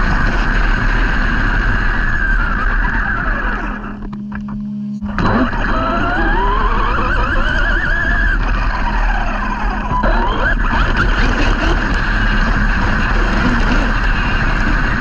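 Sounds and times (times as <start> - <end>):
electric motor whining: 0.0 - 15.0
steady rush of noise: 0.0 - 15.0.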